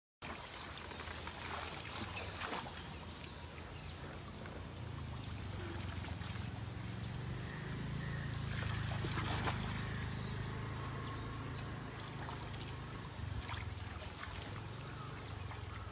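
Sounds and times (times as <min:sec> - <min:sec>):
river water splashing: 0:00.2 - 0:15.9.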